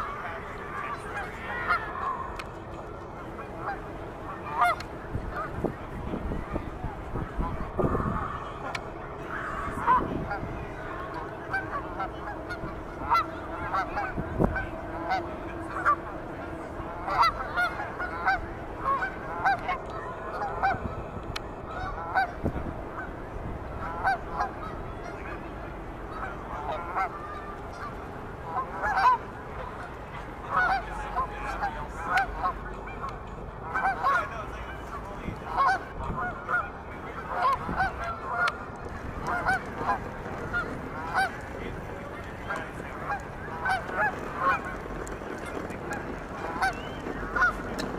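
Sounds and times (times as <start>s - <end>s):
geese honking: 0.0s - 47.9s.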